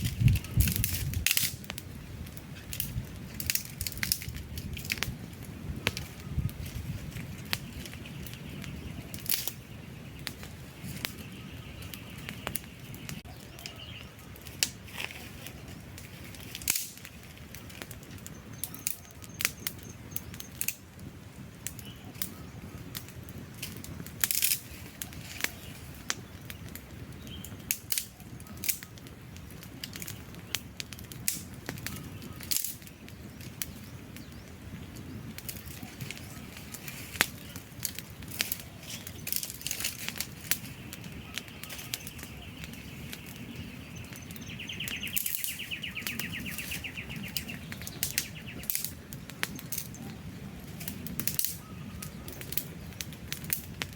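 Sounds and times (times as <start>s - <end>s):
campfire crackles and pops: 0.0s - 53.9s
low rumble of flames: 0.0s - 53.9s.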